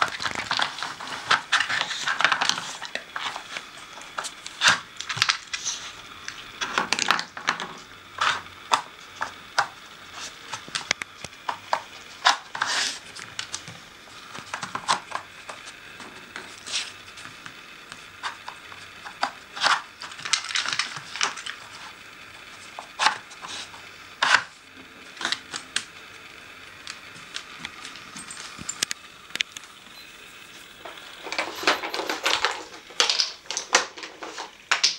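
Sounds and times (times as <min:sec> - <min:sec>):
plastic puzzle pieces clattering: 0:00.0 - 0:17.5, 0:18.2 - 0:24.5, 0:25.1 - 0:25.9, 0:30.8 - 0:34.9.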